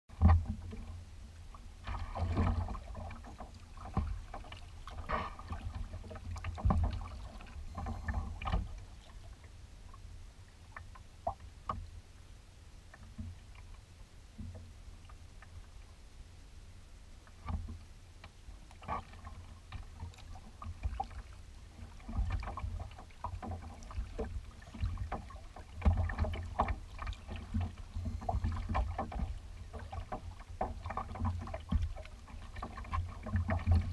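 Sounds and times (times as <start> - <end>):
paddle splashes: 0.1 - 11.9, 17.3 - 33.9
water slapping against hull: 0.1 - 11.9, 17.3 - 33.9.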